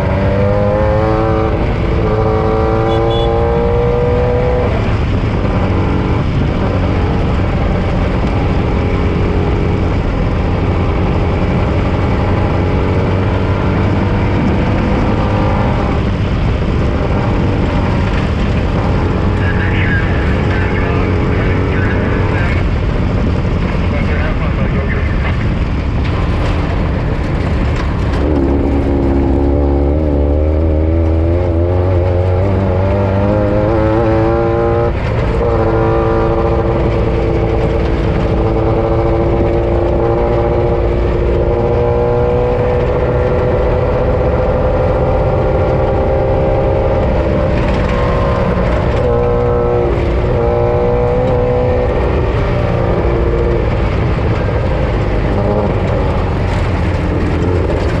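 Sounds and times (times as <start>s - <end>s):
race vehicle engine revving: 0.0s - 58.0s.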